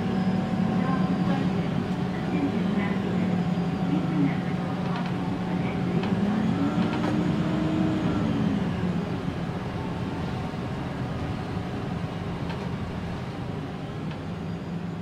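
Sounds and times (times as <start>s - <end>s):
bus diesel engine drone: 0.0s - 15.0s
drivetrain whine: 0.0s - 15.0s.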